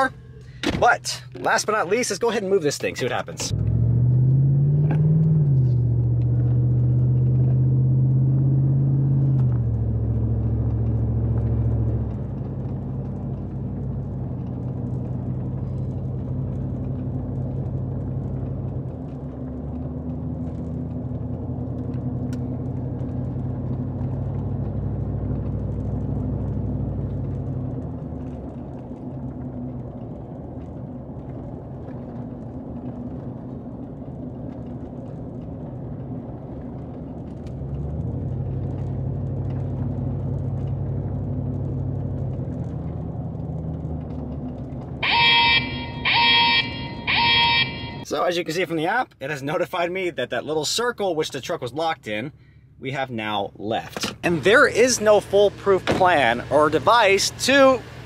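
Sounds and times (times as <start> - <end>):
truck engine driving from inside cab: 0.0 - 58.0.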